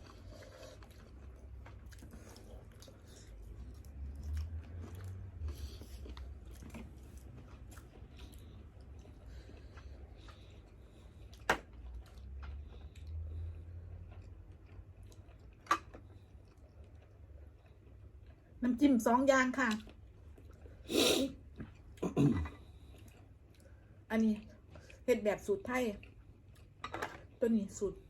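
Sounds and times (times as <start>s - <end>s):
person chewing seafood: 0.0s - 18.6s, 19.9s - 24.0s.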